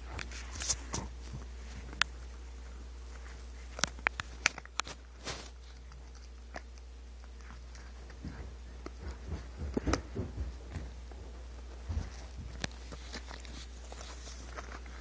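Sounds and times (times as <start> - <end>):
puppy chewing rawhide bone: 0.0 - 15.0.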